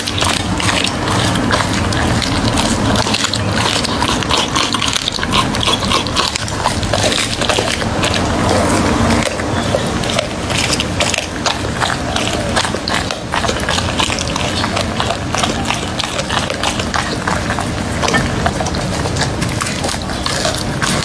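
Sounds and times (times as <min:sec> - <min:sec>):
dog chewing meat and bone: 0:00.0 - 0:21.0.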